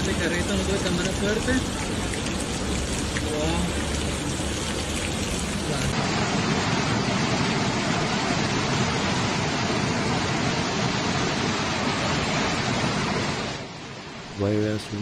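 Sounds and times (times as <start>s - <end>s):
floodwater rushing down street: 0.0s - 15.0s.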